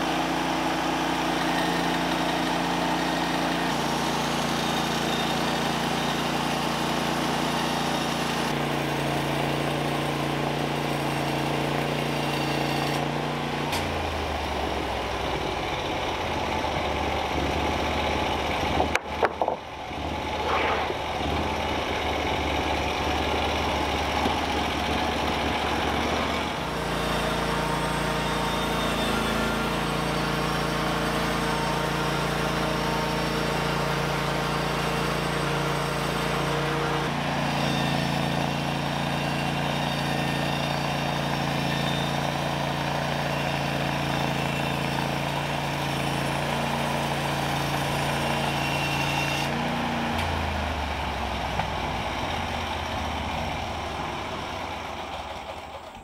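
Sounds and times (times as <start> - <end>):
sawmill gas engine running: 0.0 - 56.0.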